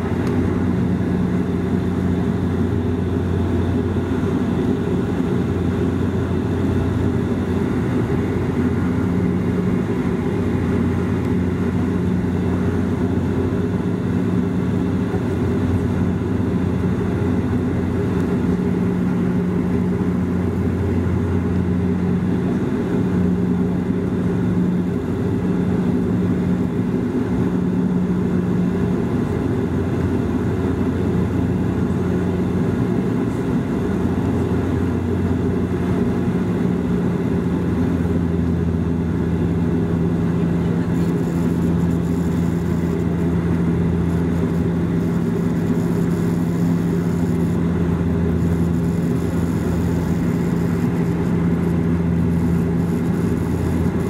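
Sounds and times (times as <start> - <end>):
aircraft engine and propeller drone: 0.0 - 54.0
low propeller hum: 0.0 - 54.0.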